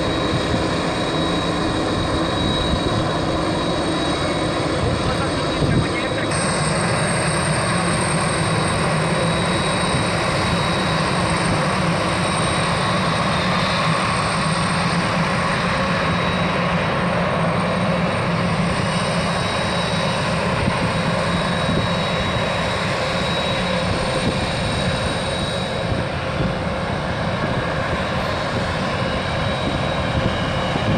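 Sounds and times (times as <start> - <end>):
jet turbine noise: 0.0 - 30.9.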